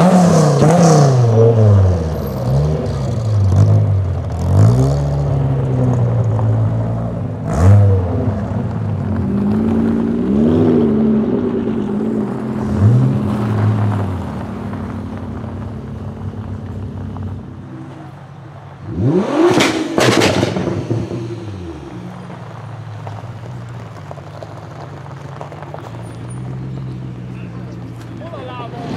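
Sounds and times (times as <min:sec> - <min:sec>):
car engine revving in blips: 0:00.0 - 0:18.2, 0:18.8 - 0:28.9.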